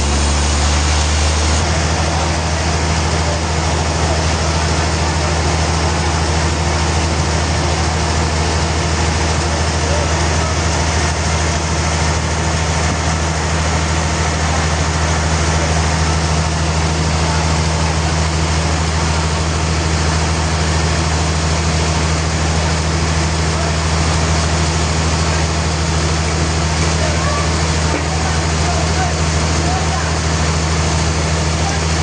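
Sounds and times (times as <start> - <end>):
sawmill machinery hum and hiss: 0.0 - 32.0.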